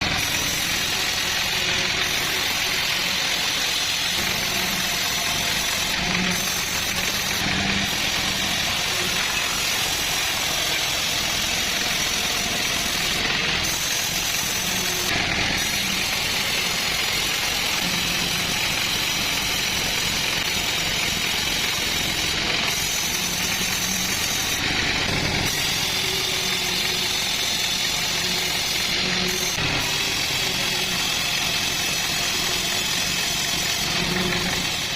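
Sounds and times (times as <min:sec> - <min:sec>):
chainsaw mill cutting log: 0:00.0 - 0:34.9.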